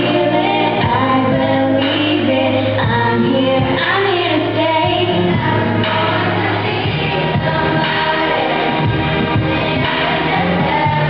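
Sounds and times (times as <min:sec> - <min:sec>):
girls singing into microphones: 0:00.0 - 0:11.0
instrumental accompaniment: 0:00.0 - 0:11.0.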